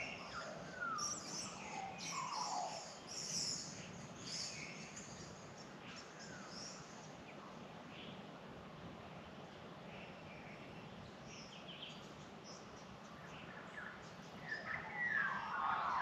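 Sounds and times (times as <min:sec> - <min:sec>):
small birds chirping: 0:00.0 - 0:08.3, 0:09.2 - 0:16.0.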